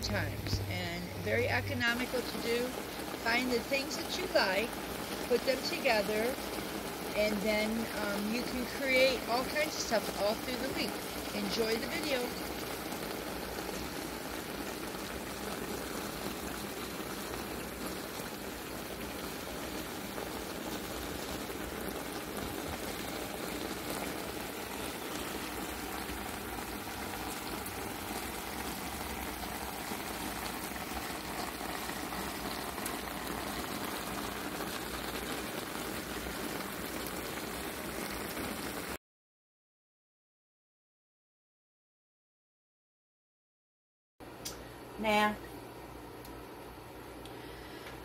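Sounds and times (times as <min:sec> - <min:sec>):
food sizzling in a skillet: 0:00.0 - 0:39.0.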